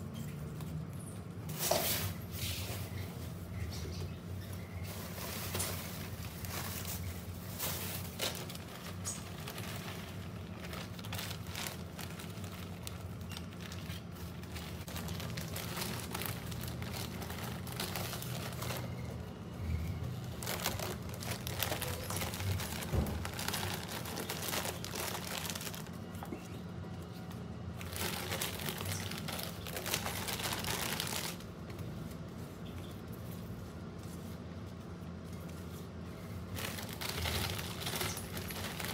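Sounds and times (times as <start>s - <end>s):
plastic bag crinkling: 4.4s - 38.9s.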